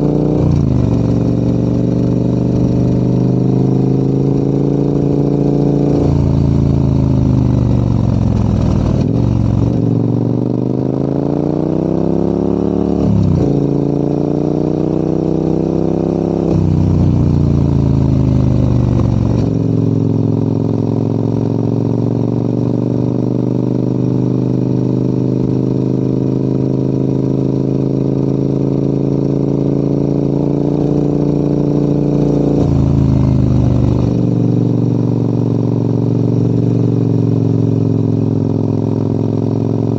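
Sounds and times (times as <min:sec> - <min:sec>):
motorcycle engine pulling uphill: 0:00.0 - 0:39.9.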